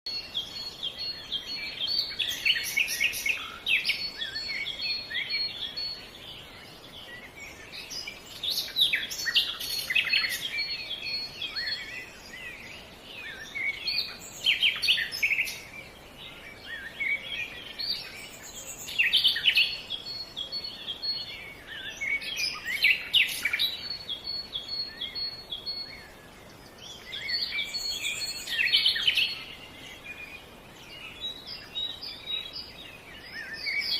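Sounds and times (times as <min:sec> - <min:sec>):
background hiss: 0:00.1 - 0:33.9
songbirds chirping and trilling: 0:00.1 - 0:33.9.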